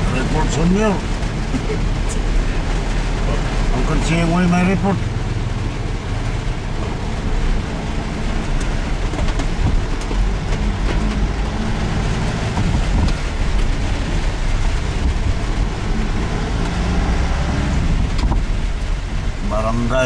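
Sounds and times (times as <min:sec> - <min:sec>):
rain hissing: 0:00.0 - 0:20.0.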